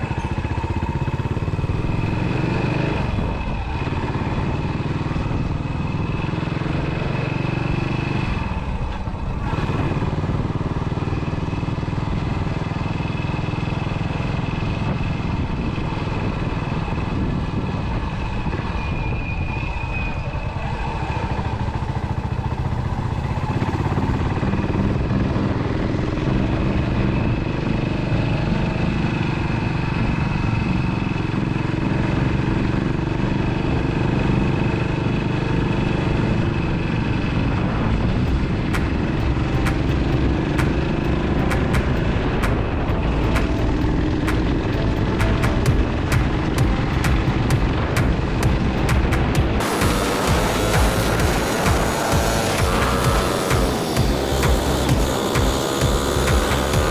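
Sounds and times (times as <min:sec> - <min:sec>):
motorcycle engine running: 0:00.0 - 0:18.8, 0:20.3 - 0:56.9.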